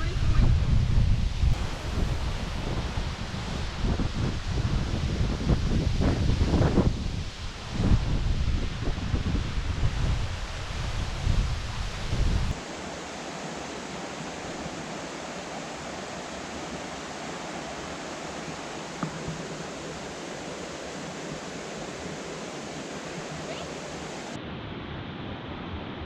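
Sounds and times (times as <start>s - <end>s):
wind on microphone: 0.0s - 24.4s
waterfall rushing: 1.6s - 24.4s.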